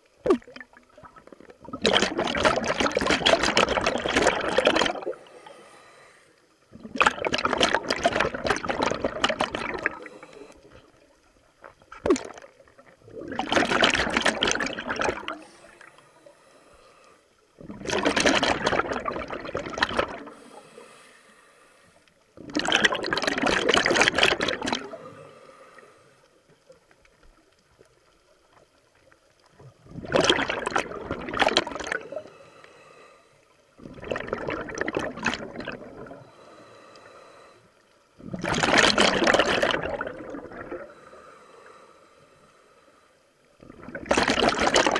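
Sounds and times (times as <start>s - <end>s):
underwater breath bubbles: 0.2s - 26.6s, 29.5s - 44.9s.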